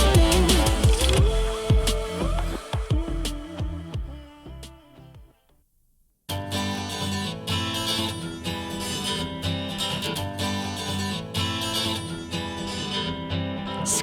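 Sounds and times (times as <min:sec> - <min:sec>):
acoustic guitar strumming: 0:00.0 - 0:04.3, 0:06.3 - 0:14.0.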